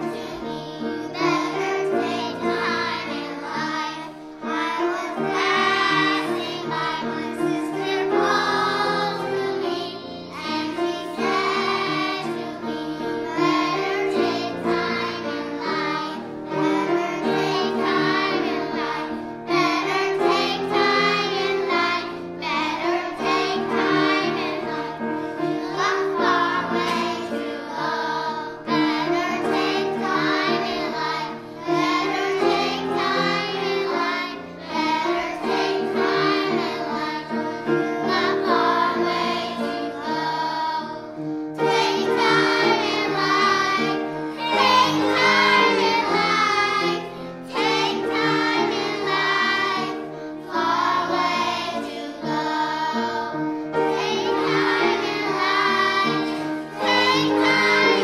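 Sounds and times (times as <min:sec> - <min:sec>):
children's choir singing: 0:00.0 - 0:58.0
instrumental accompaniment: 0:00.0 - 0:58.0.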